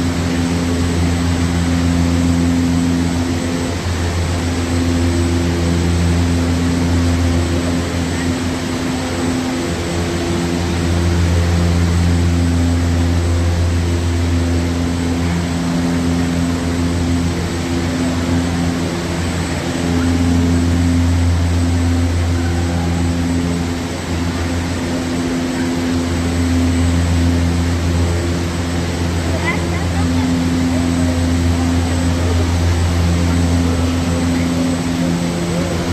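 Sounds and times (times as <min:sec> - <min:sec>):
wind machine fans droning: 0:00.0 - 0:35.9.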